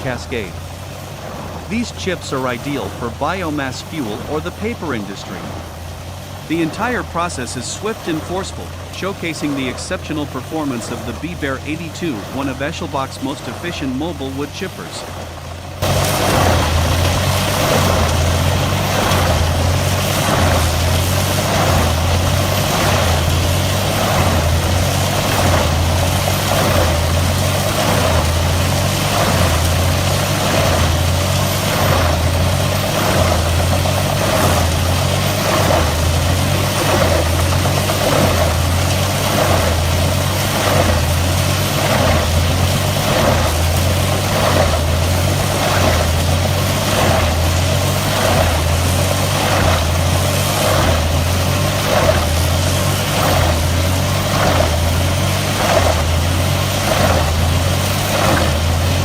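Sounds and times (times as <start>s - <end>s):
wood chipper diesel engine pulsing: 0.0s - 59.0s.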